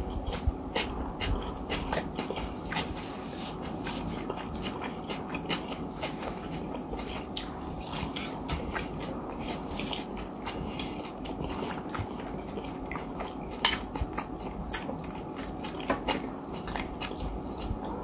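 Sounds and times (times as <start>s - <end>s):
chewing rice: 0.0s - 18.0s.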